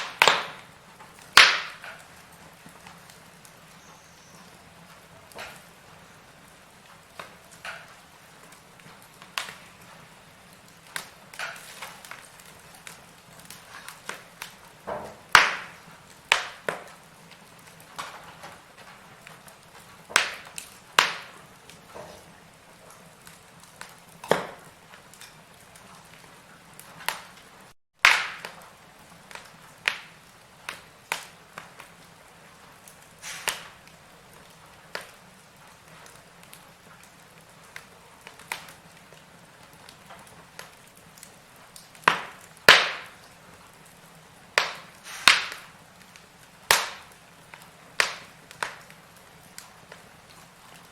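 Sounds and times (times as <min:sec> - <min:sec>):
firewood crackling and popping: 0:00.0 - 0:50.9.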